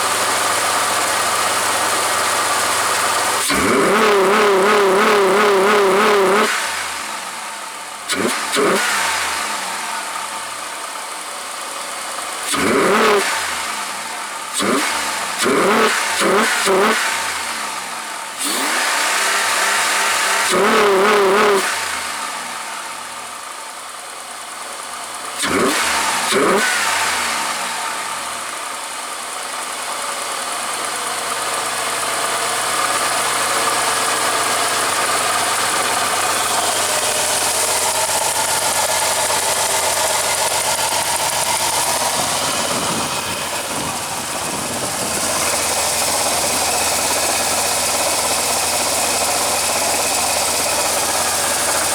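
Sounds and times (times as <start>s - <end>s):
loud engine intake sound: 0.0s - 23.3s, 25.4s - 51.9s
car engine revving: 0.0s - 23.7s, 25.1s - 51.9s.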